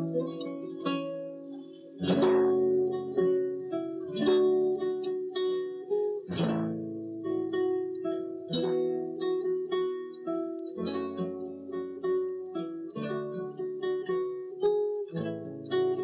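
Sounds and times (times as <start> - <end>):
guitar plucked notes and chords: 0.0 - 16.0.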